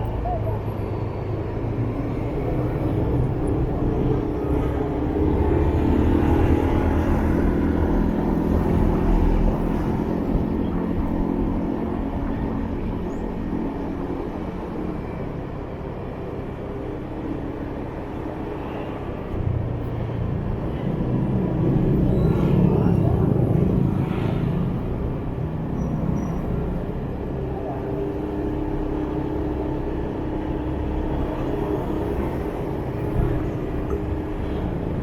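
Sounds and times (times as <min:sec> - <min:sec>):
city traffic: 0:00.0 - 0:35.0.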